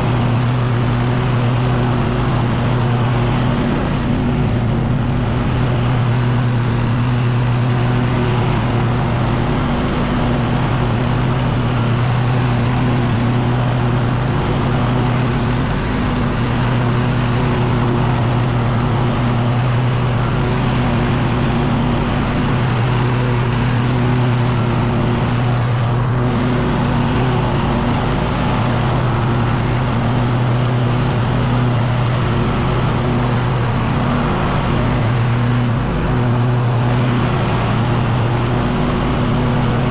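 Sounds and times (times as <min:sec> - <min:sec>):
leaf blower engine drone: 0:00.0 - 0:39.9.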